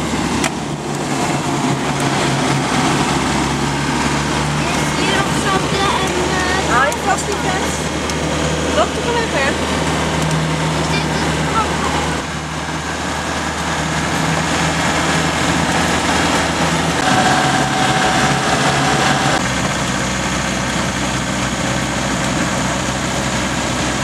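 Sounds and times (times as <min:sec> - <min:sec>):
thin steady whine: 0:00.0 - 0:23.8
car engine running: 0:00.0 - 0:24.0
road noise: 0:00.0 - 0:24.0.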